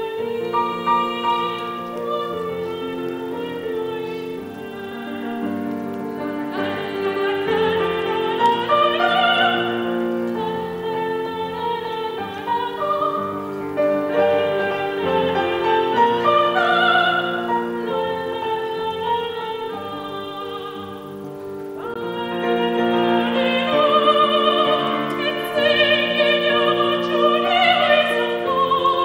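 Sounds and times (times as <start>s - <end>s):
grand piano accompaniment: 0.0s - 29.0s
soprano singing with vibrato: 0.0s - 29.0s.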